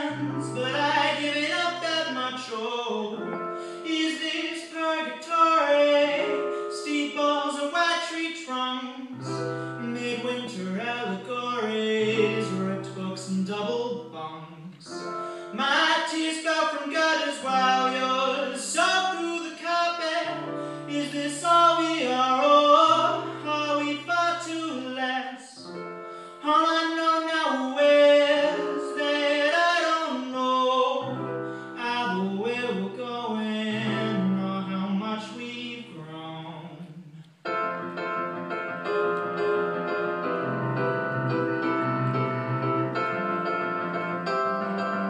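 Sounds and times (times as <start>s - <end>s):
man singing: 0.0s - 37.3s
piano chords: 0.0s - 45.0s.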